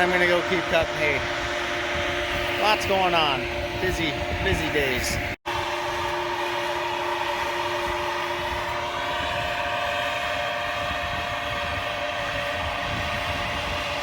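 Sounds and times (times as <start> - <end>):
drive whine: 0.0 - 14.0.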